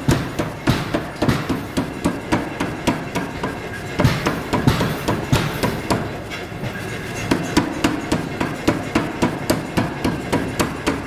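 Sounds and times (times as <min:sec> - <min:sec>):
power hammer striking hot metal: 0:00.0 - 0:06.3, 0:07.2 - 0:11.0.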